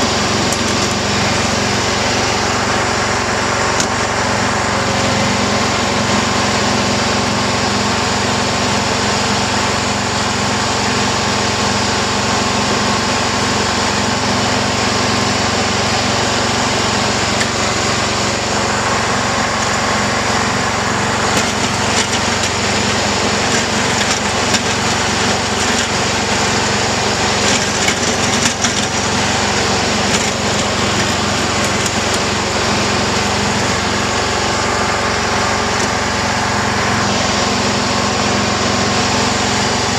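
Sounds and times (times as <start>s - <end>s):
blade and tires crunching snow: 0.0s - 39.9s
garden tractor engine running: 0.0s - 39.9s.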